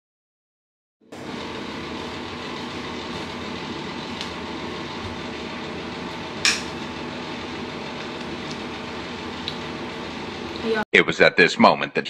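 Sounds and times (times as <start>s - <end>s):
ventilation fan humming: 1.1s - 10.8s.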